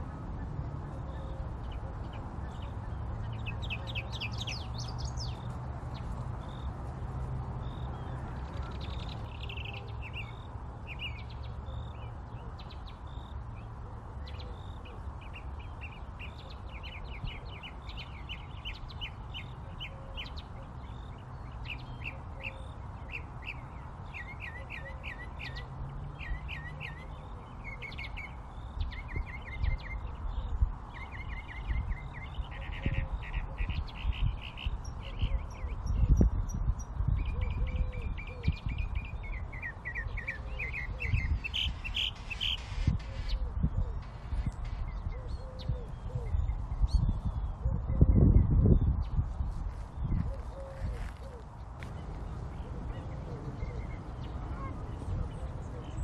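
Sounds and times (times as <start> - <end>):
birds chirping and trilling: 0.0 - 7.0, 7.6 - 56.0.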